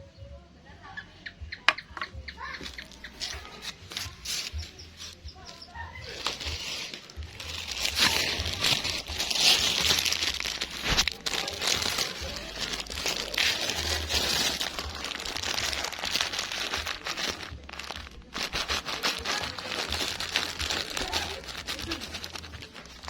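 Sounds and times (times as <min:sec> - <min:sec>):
bird feed pellets being crushed: 0:02.4 - 0:23.0.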